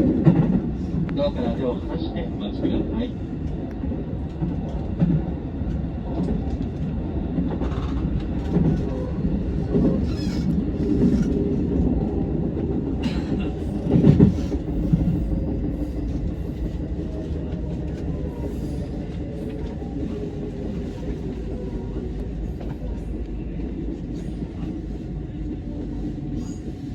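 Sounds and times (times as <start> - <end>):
train rumbling on rails: 0.0 - 26.9.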